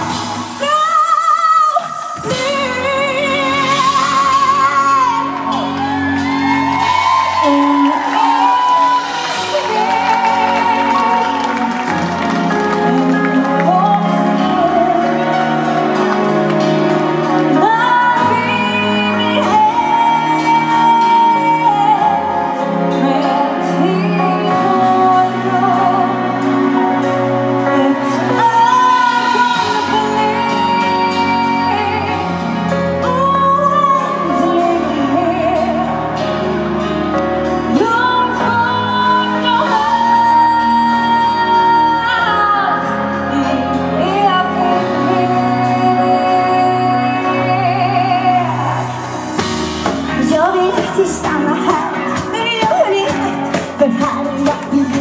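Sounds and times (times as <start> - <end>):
instrumental accompaniment: 0.0 - 55.0
woman singing a ballad: 0.0 - 55.0.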